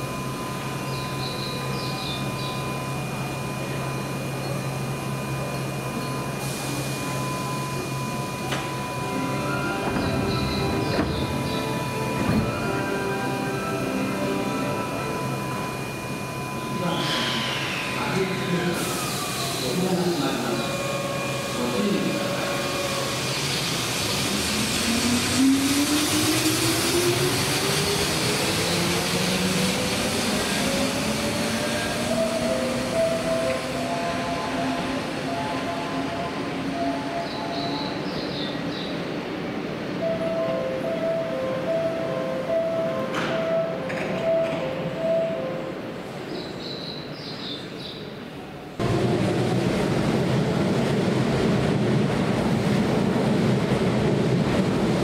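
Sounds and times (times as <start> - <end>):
electric train rumble and motor whine: 0.0 - 46.3, 48.7 - 55.0.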